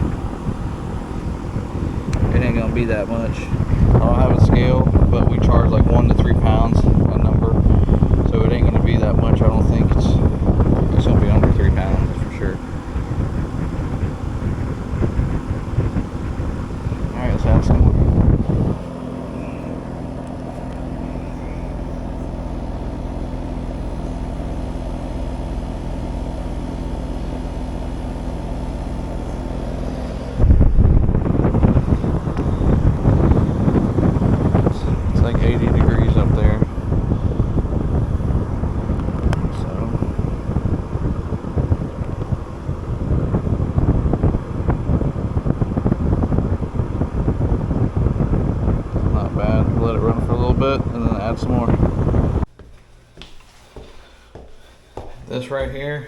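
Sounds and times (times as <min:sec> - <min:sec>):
wind on microphone: 0:00.0 - 0:52.6
air conditioner unit humming: 0:00.0 - 0:56.0.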